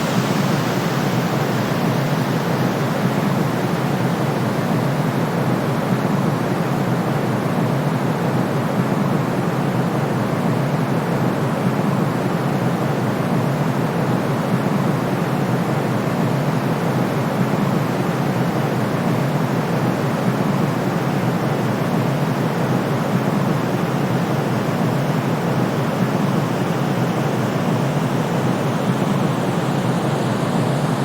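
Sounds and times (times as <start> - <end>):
steady white noise hiss: 0.0 - 31.0.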